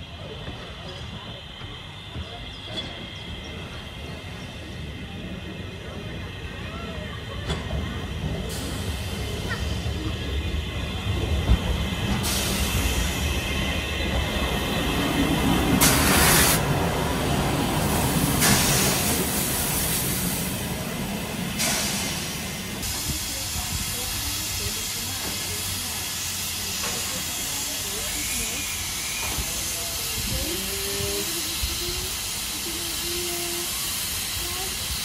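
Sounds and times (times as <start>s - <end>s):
steam locomotive hissing: 0.0s - 35.0s.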